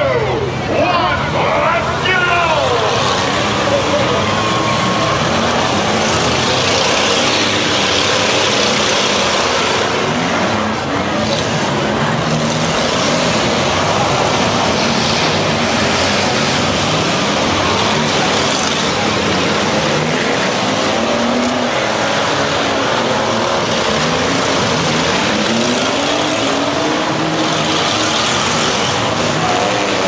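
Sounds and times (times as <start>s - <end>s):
car engines revving unevenly: 0.0s - 30.0s
crowd voices: 0.0s - 30.0s.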